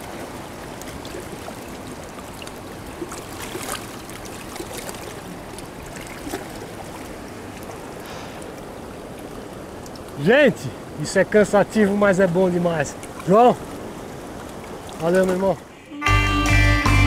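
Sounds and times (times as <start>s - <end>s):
short water splashes: 0.0s - 15.8s
water running over rocks: 0.0s - 15.8s.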